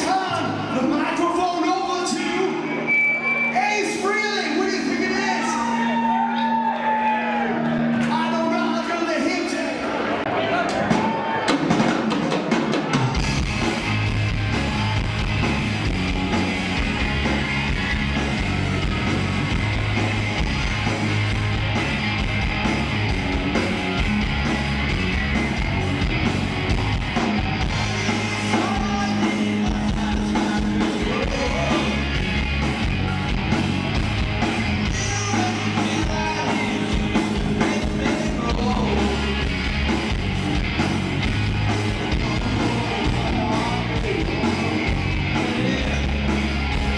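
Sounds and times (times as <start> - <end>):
bass guitar: 0.0 - 12.0, 12.6 - 46.9
drums: 0.0 - 46.9
electric guitars: 1.9 - 46.9.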